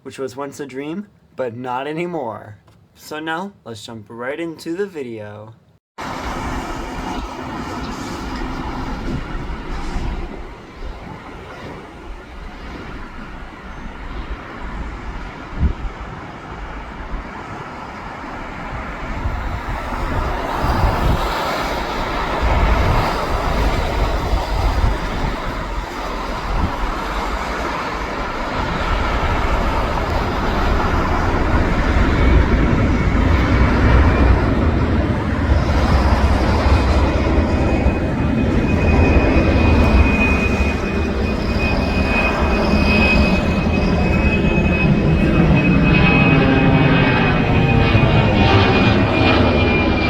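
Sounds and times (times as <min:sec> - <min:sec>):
high jet whine: 0:06.0 - 0:50.0
jet engines on approach: 0:06.0 - 0:50.0
wind rumbling on microphone: 0:06.0 - 0:50.0.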